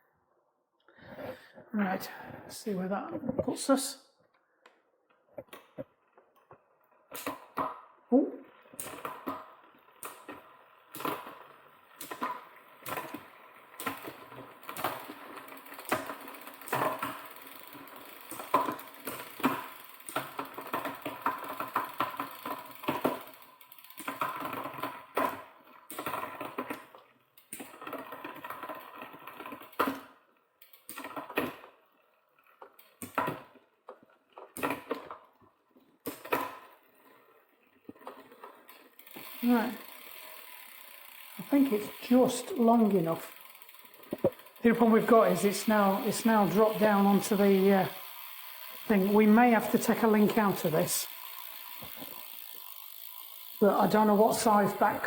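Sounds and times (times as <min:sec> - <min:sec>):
bicycle chain clicks and clatter: 0:05.5 - 0:55.0.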